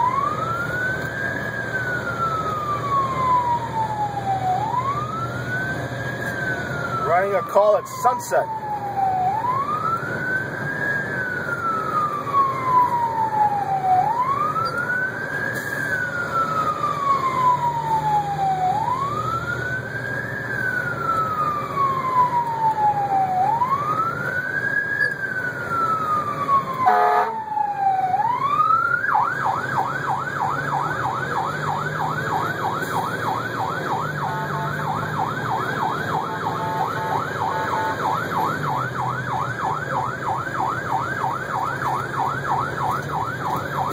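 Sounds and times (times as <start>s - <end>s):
siren wailing and yelping: 0.0s - 43.9s
truck engine: 0.0s - 43.9s.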